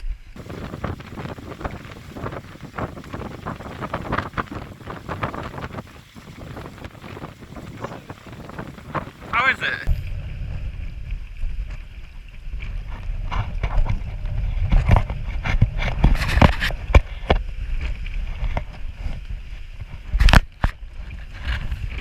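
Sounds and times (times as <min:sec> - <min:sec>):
strong wind buffeting microphone: 0:00.3 - 0:22.0.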